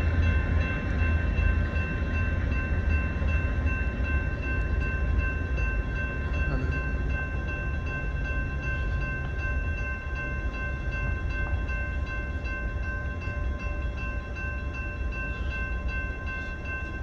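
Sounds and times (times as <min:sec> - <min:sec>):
railroad crossing bell ringing: 0:00.0 - 0:17.0.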